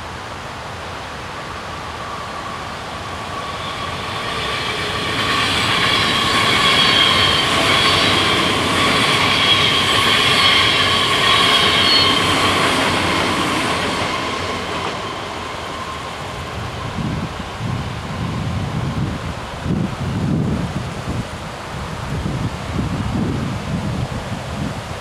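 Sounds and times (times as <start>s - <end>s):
electric train passing with whine: 0.0s - 25.0s.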